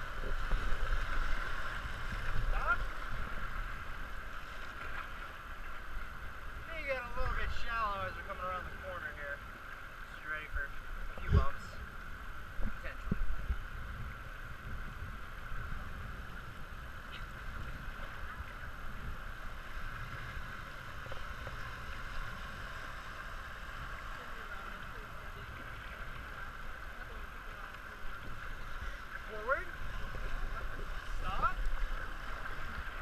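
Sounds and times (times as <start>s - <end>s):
river water rushing over riffles: 0.0s - 33.0s.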